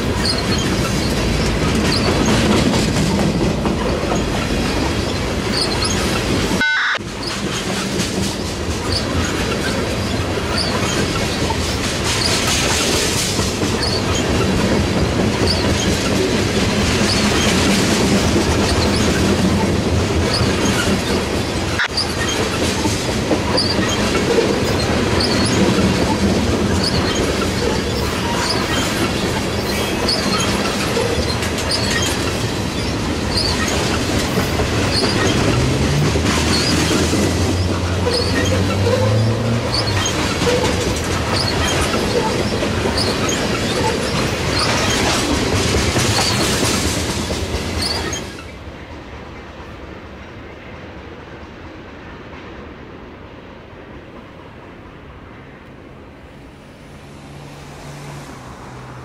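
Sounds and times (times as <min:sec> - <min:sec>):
wheels clicking over rail joints: 0:00.0 - 0:48.8
freight cars rumbling: 0:00.0 - 0:50.5, 0:53.6 - 0:59.0.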